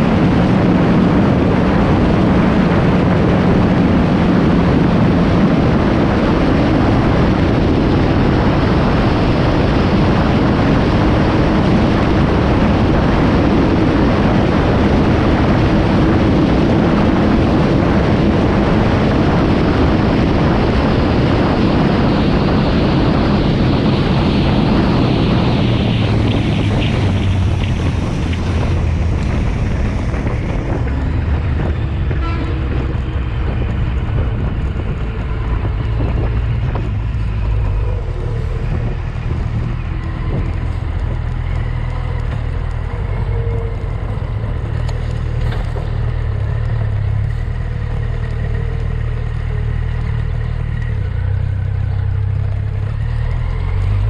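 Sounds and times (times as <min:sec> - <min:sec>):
motorcycle engine drone: 0:00.0 - 0:54.0
wind rushing over microphone: 0:00.0 - 0:54.0.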